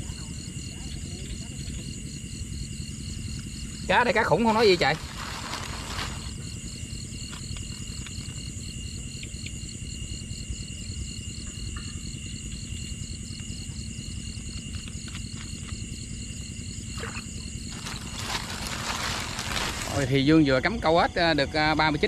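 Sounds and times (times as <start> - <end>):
high insect drone: 0.0 - 22.0
night insects chirping: 0.0 - 22.0.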